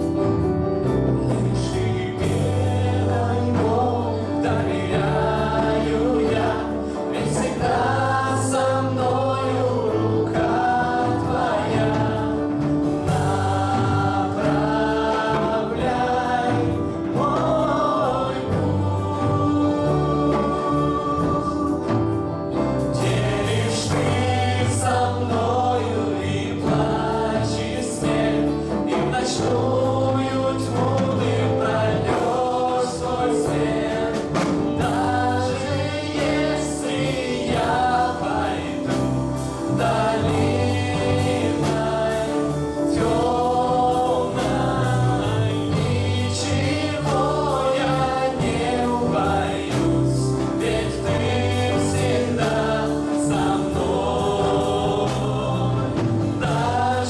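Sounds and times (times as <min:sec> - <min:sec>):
drums: 0:00.0 - 0:57.0
guitars: 0:00.0 - 0:57.0
keyboard: 0:00.0 - 0:57.0
men and women singing together: 0:00.0 - 0:57.0.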